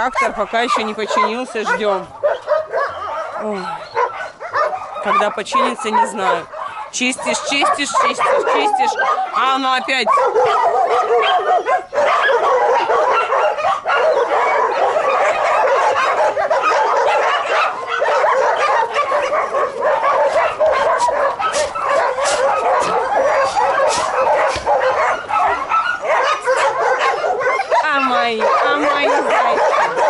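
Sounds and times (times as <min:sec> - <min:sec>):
dogs barking and whining: 0:00.0 - 0:30.0.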